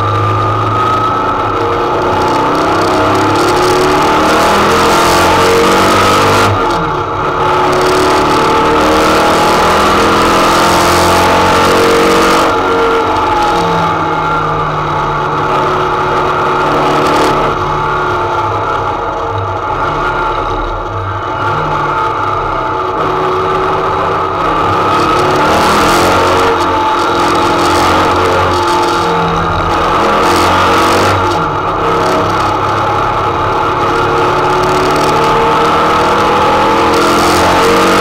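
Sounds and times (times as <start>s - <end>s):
racing engine revving: 0.0s - 38.0s.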